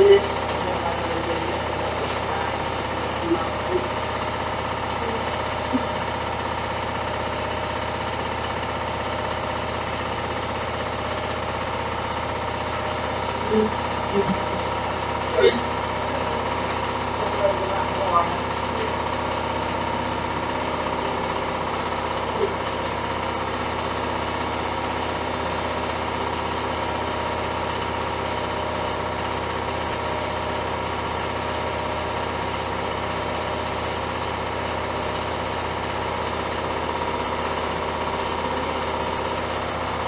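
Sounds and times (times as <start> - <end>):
washing machine humming: 0.0 - 40.0.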